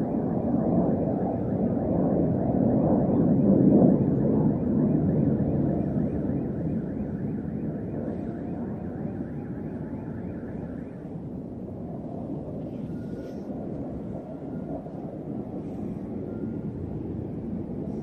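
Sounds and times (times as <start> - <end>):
fighter jet flying overhead: 0.0 - 18.0.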